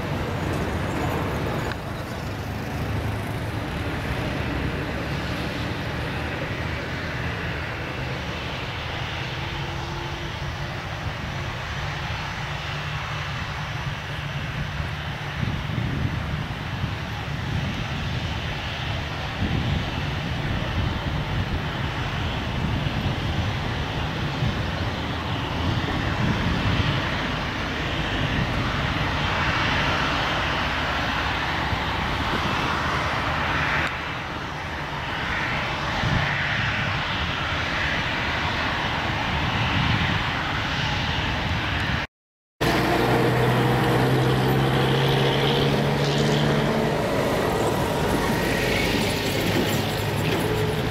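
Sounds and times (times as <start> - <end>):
jet engines rushing hum: 0.0 - 50.9.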